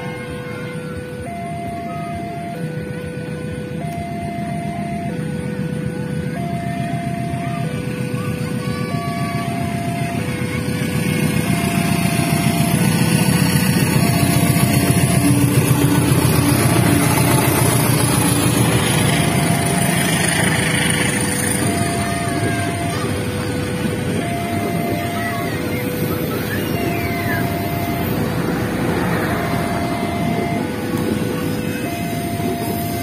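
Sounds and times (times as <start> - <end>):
train engine and wheels rumbling: 0.0 - 33.0
two-tone crossing alarm: 0.0 - 33.0.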